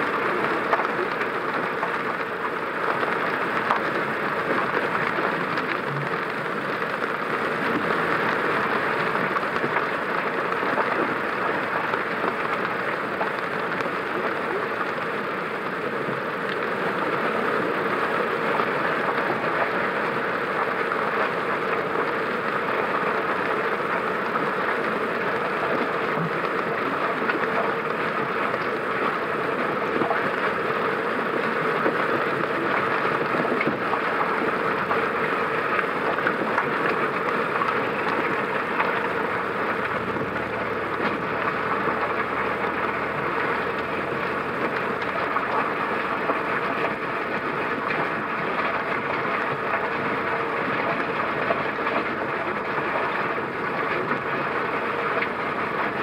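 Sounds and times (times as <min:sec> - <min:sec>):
rain and tyres on wet road: 0:00.0 - 0:56.0.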